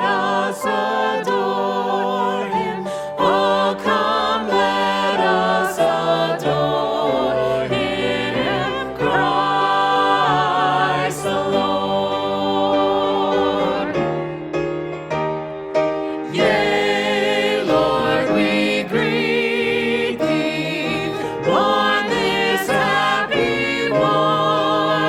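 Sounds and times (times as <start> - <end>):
choir singing a hymn: 0.0 - 14.6, 16.0 - 25.0.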